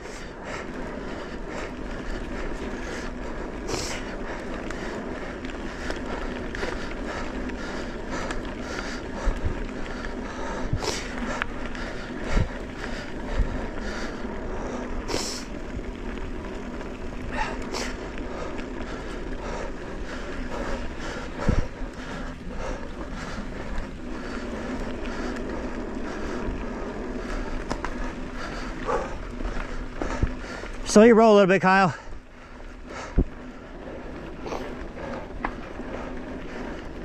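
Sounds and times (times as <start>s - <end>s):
low thuds over bumps: 0.0s - 30.9s, 32.1s - 37.0s.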